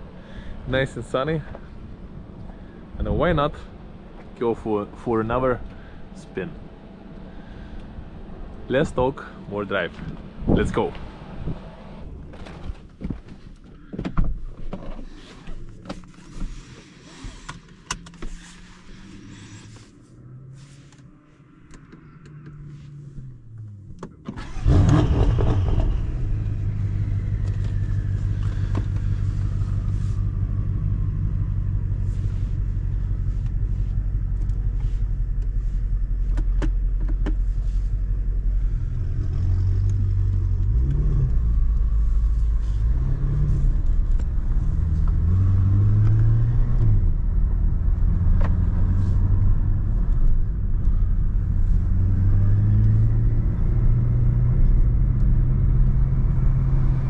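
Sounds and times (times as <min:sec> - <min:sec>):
low hum: 0:00.0 - 0:12.9, 0:18.4 - 0:57.0
car engine starting and idling: 0:00.0 - 0:57.0.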